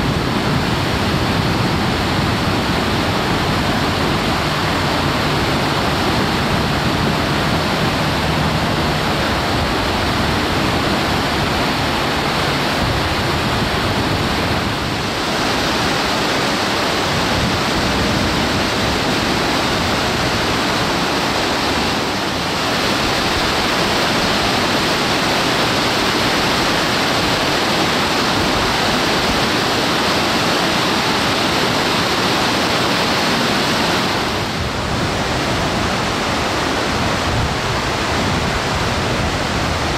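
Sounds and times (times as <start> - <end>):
whitewater rushing over boulders: 0.0 - 39.9.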